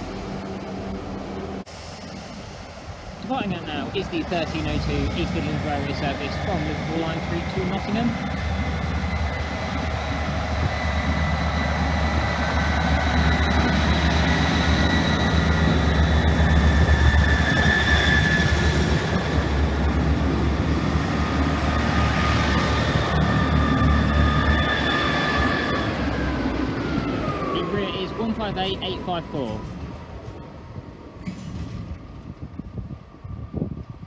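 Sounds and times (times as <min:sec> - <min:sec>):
steady high whine: 0:00.0 - 0:29.7
diesel train engines rumbling: 0:00.0 - 0:31.2.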